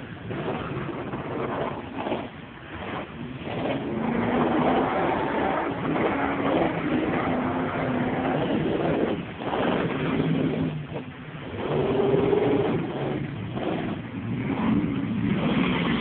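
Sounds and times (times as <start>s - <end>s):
suv engine running under load: 0.0s - 16.0s.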